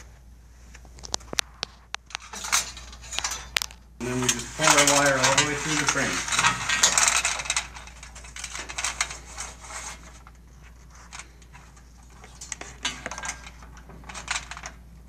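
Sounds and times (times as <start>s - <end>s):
cable scraping through metal frame: 2.2s - 14.6s.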